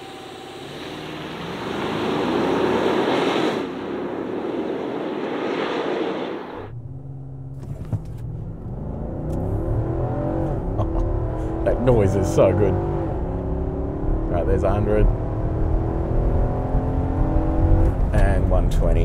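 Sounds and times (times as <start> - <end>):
engine accelerating: 0.0 - 4.4, 6.4 - 19.0.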